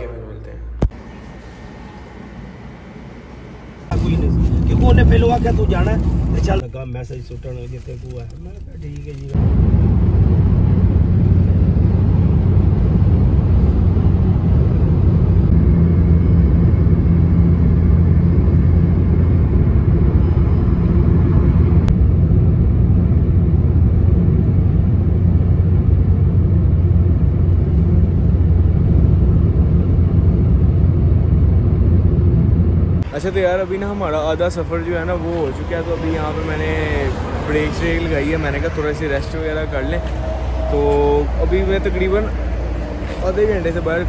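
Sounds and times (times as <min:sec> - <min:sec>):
car cabin road noise: 0:00.8 - 0:44.0.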